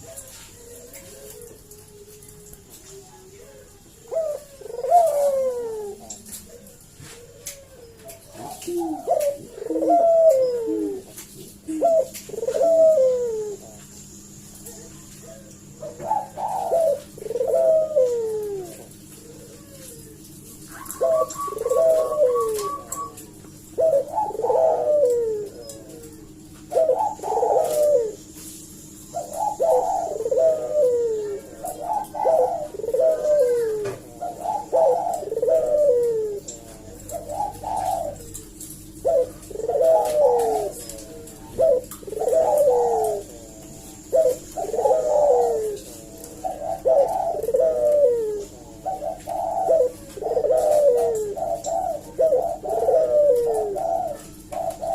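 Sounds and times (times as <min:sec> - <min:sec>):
dove cooing: 0:00.0 - 0:54.9
steady low hum: 0:00.0 - 0:54.9.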